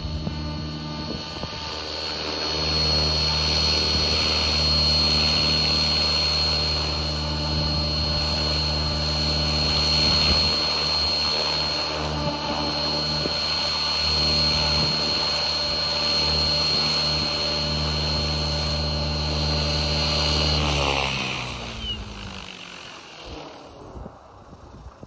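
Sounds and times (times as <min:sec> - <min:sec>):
helicopter rotor thrum: 0:00.0 - 0:24.9
electric motor whine: 0:00.0 - 0:25.0.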